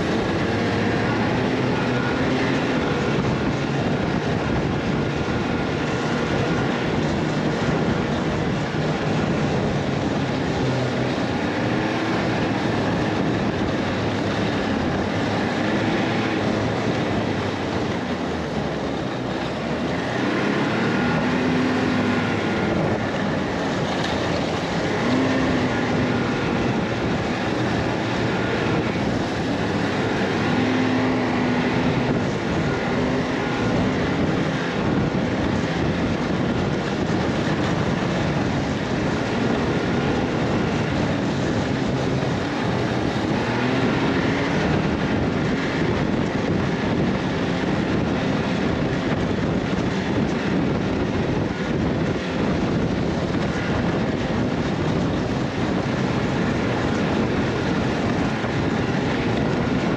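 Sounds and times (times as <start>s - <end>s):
steady rush of noise: 0.0s - 59.9s
vehicle engine running: 0.0s - 59.9s.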